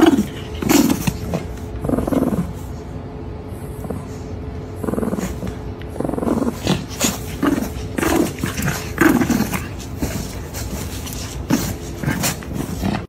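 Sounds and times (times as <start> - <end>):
pet grumbling vocal sounds: 0.0 - 2.7, 3.6 - 13.0.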